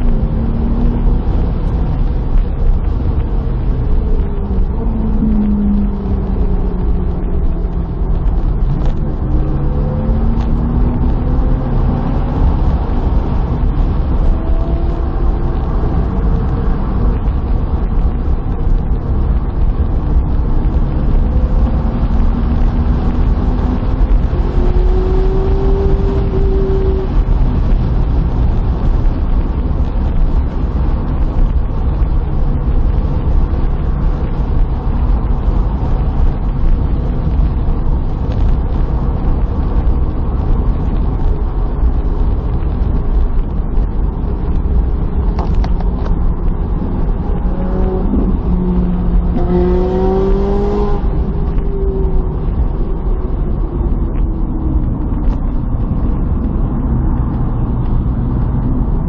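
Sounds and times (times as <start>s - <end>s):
car engine: 0.0s - 59.0s
road rumble: 0.0s - 59.0s.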